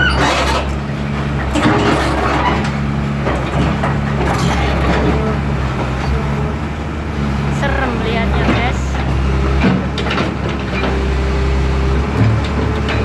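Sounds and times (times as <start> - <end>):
heavy machinery knocks and creaks: 0.0 - 6.7, 8.4 - 13.0
heavy diesel engine running: 0.0 - 13.0.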